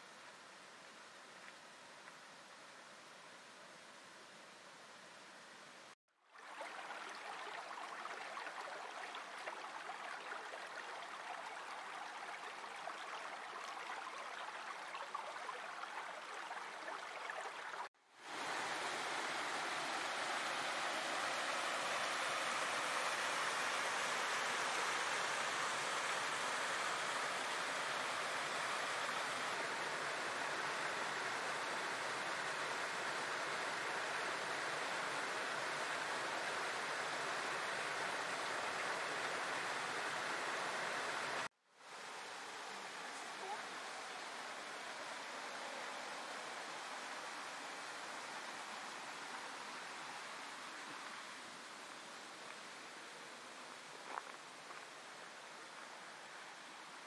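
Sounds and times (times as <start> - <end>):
stream rushing over rocks: 6.3 - 57.0.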